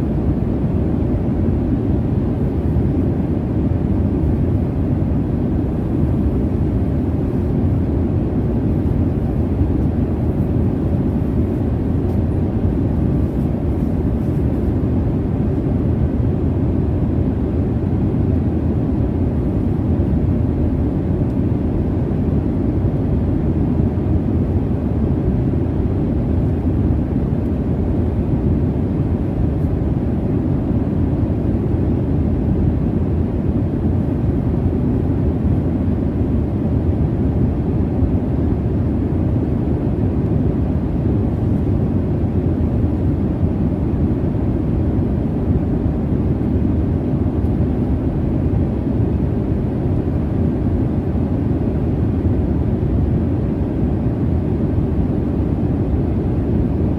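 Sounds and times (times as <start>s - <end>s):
jet airliner cabin rumble: 0.0s - 56.9s.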